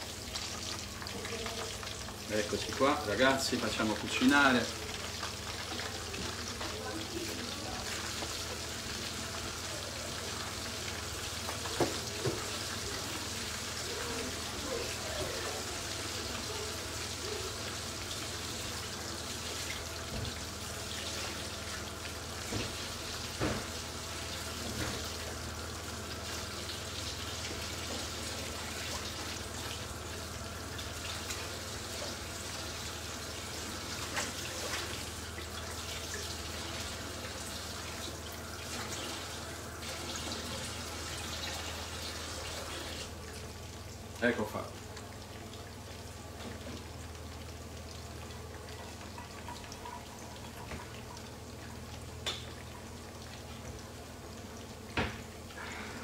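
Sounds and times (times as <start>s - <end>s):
aubergine sizzling in oil: 0.0s - 56.0s.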